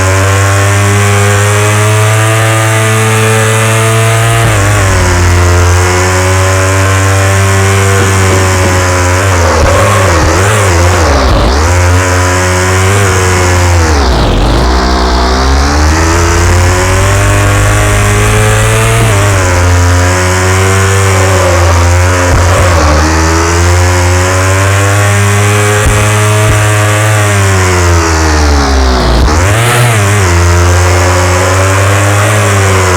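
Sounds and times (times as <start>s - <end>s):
motorcycle engine revving loudly: 0.0s - 32.9s.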